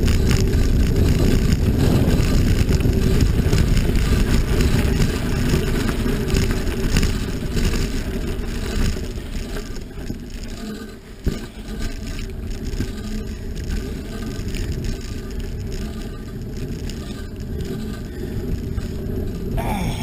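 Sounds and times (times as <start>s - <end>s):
wind buffeting microphone: 0.0s - 10.6s, 11.2s - 20.0s
vehicle rumble: 0.0s - 20.0s.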